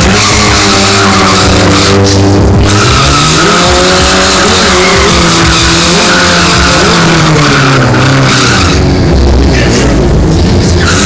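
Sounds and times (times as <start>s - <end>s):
tyre screeching on pavement: 0.0s - 8.9s
motorcycle engine revving: 0.0s - 11.0s.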